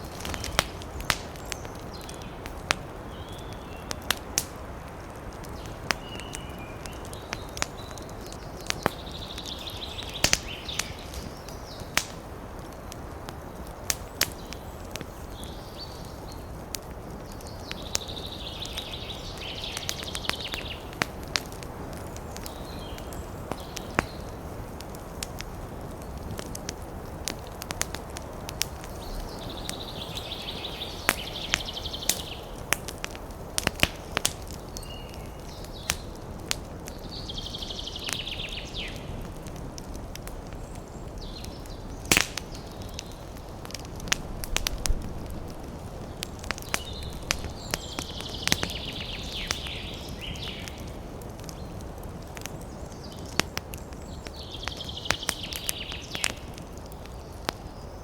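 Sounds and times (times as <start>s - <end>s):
burning wood hissing: 0.0s - 58.0s
wood fire crackling and popping: 0.0s - 58.0s.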